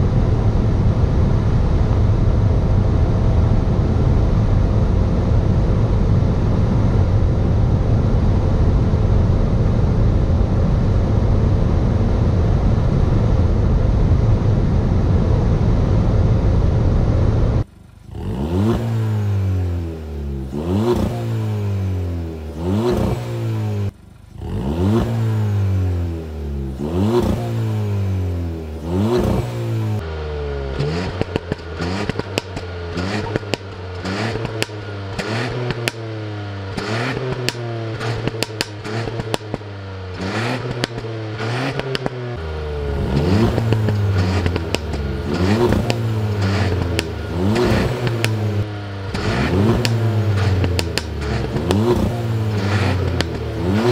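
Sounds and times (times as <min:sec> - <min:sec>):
car engines revving: 0:00.0 - 0:53.9
exhaust crackles: 0:00.0 - 0:53.9.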